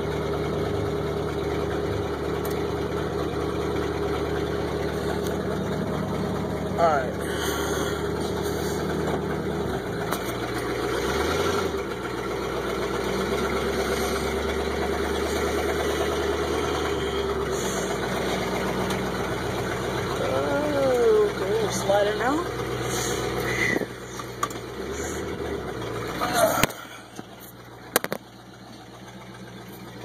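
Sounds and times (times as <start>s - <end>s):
pickup truck engine idling: 0.0s - 30.0s.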